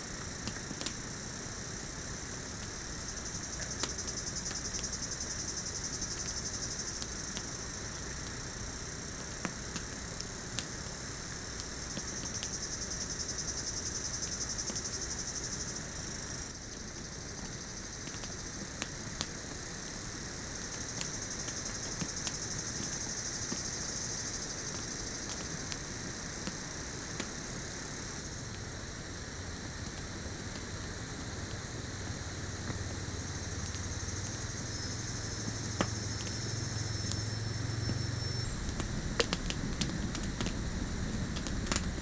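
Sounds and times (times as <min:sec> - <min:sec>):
background hiss: 0:00.0 - 0:42.0
insects buzzing: 0:00.0 - 0:42.0.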